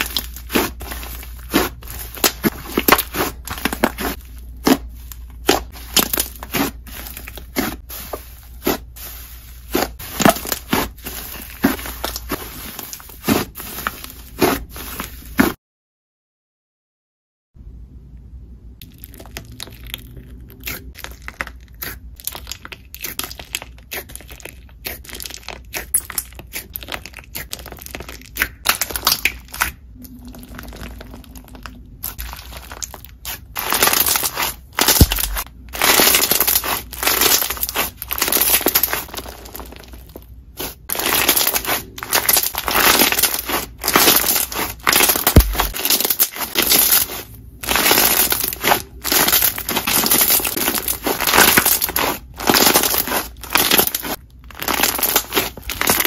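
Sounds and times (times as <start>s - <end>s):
crunchy slime crackling: 0.0s - 15.6s, 18.8s - 56.0s.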